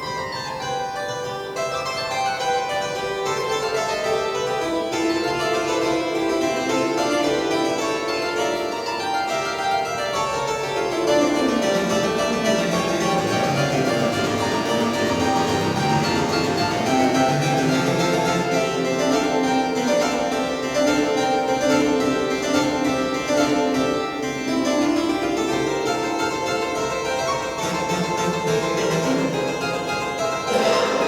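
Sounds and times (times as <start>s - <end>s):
pipe organ chords: 4.2s - 31.0s.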